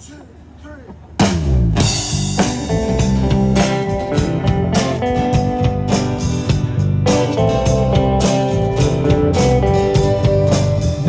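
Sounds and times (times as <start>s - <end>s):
drums steady beat: 0.0s - 11.0s
guitar: 1.2s - 11.0s.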